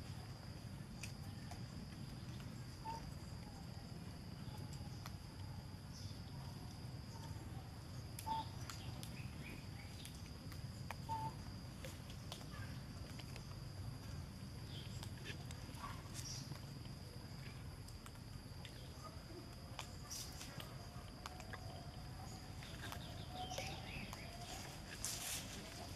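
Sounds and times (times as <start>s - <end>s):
high insect drone: 0.0s - 25.9s.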